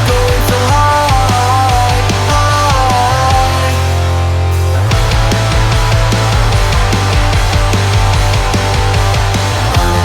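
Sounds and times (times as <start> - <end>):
instrumental punk rock: 0.0 - 10.0.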